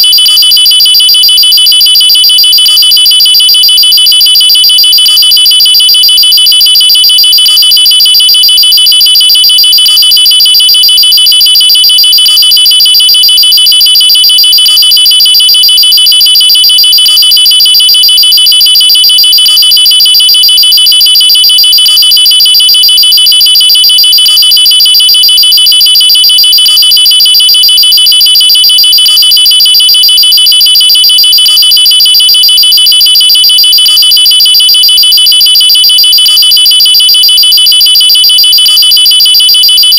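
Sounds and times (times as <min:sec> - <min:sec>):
electronic alarm buzzing tone: 0:00.0 - 0:39.9.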